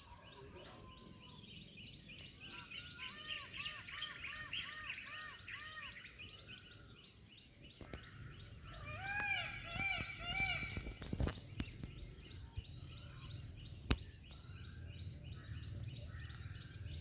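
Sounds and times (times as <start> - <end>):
faint outdoor background noise: 0.0 - 17.0
high insect-like whine: 0.0 - 17.0
small birds chirping: 0.0 - 17.0.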